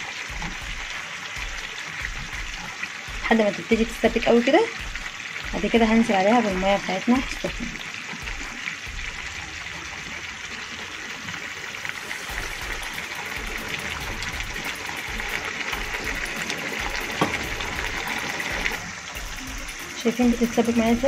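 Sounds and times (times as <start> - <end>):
meat and sauce sizzling in pot: 0.0 - 21.0.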